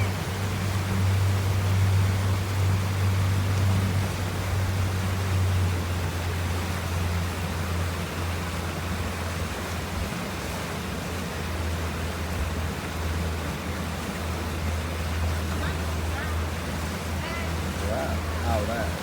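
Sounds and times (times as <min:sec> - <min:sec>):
boat motor humming: 0:00.0 - 0:19.0
water rushing: 0:00.0 - 0:19.0
wind: 0:00.0 - 0:19.0.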